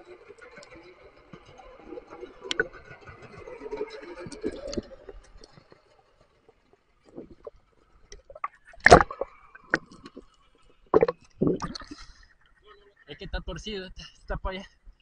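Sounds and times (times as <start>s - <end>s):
underwater gurgles and pops: 0.0s - 12.3s.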